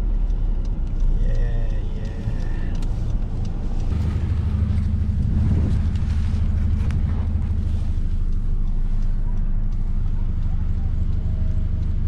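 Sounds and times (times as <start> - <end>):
car driving through snow: 1.9 - 12.0.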